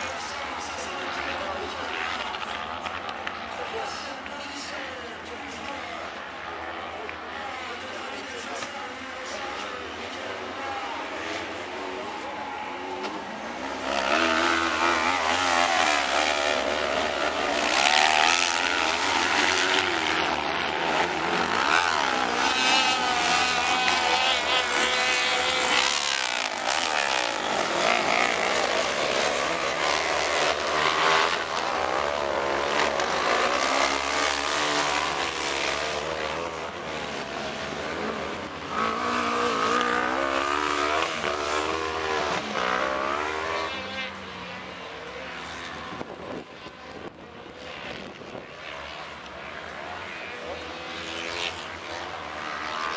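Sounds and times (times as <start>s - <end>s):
buggy engines revving: 0.0s - 52.9s.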